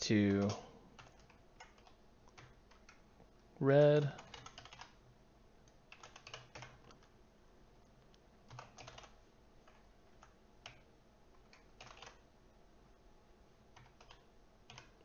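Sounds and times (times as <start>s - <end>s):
faint keyboard typing: 0.1s - 7.2s, 7.8s - 12.3s, 13.7s - 15.0s.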